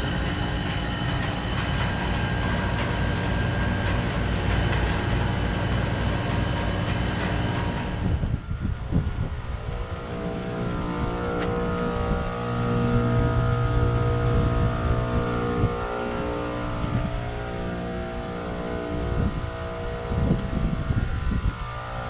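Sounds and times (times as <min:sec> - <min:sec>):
machine hum: 0:00.0 - 0:21.4
heat pump hissing and humming: 0:00.0 - 0:22.0.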